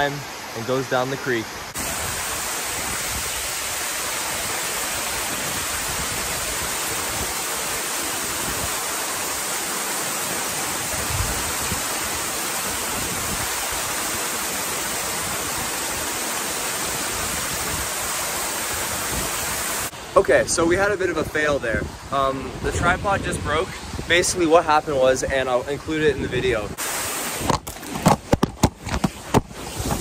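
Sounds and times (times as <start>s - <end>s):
waterfall rushing: 0.0s - 24.9s, 26.6s - 27.5s.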